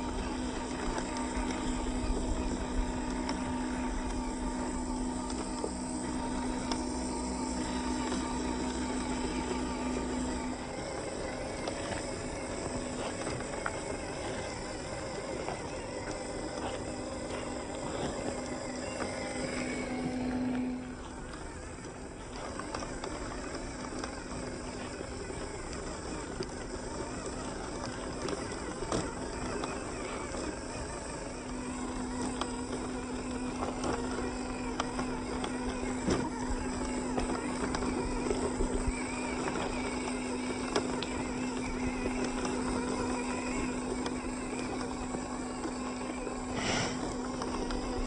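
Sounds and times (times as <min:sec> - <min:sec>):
toy car motor hum: 0:00.0 - 0:48.0
wheels knocking on stone: 0:00.0 - 0:48.0.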